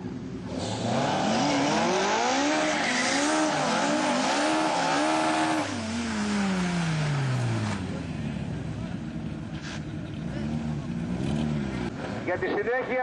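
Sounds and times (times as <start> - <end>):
racing car engine revving: 0.4 - 9.0, 9.6 - 12.1.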